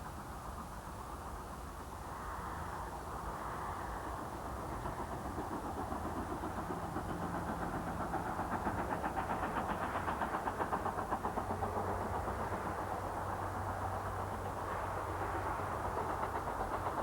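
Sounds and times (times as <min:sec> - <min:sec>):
steam train passing: 0:00.0 - 0:17.0.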